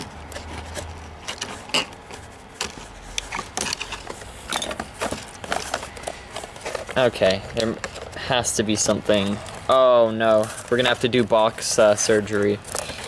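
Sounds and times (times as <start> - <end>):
plastic toy and box rattling: 0.0 - 13.0.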